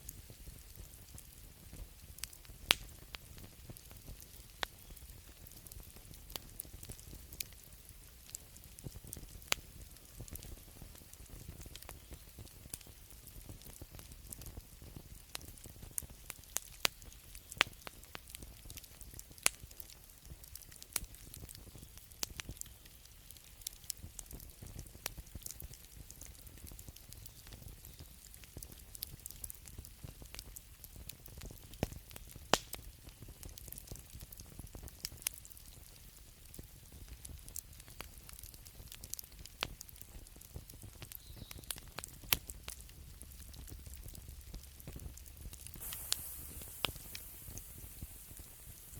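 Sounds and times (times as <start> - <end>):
wood fire crackling: 0.0 - 48.9
sharp pops and snaps: 2.2 - 7.7, 8.3 - 48.9.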